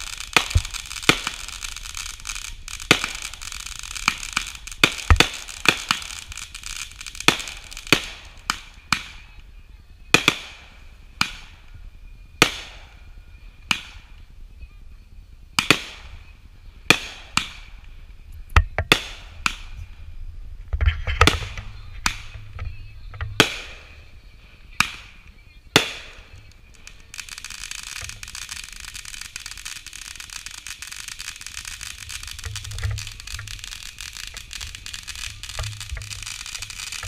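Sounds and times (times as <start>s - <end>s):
fireworks bangs with echo: 0.0s - 9.4s, 10.1s - 11.7s, 12.4s - 14.3s, 15.6s - 18.0s, 18.6s - 20.0s, 20.8s - 37.0s.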